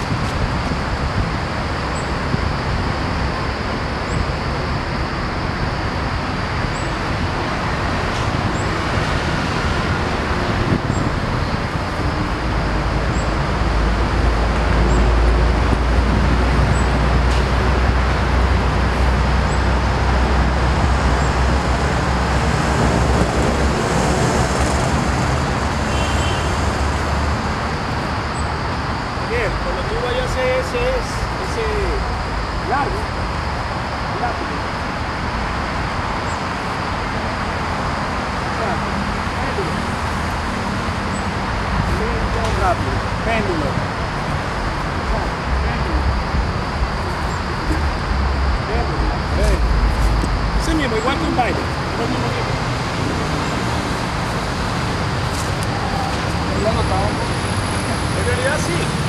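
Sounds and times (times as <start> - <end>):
heavy vehicle low rumble: 0.0 - 59.0
road traffic noise: 0.0 - 59.0.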